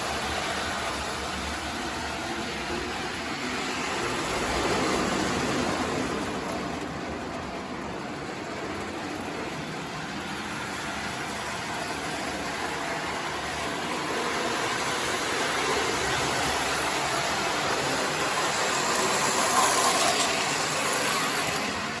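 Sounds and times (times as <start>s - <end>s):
toy train whirring on track: 0.0s - 22.0s.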